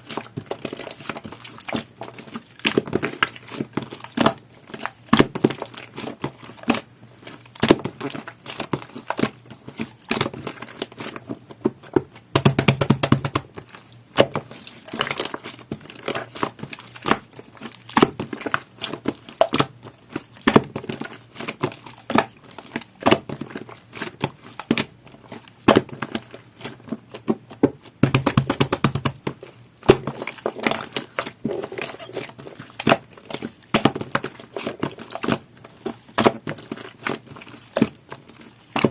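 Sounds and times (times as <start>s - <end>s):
hands squishing slime: 0.0s - 38.9s.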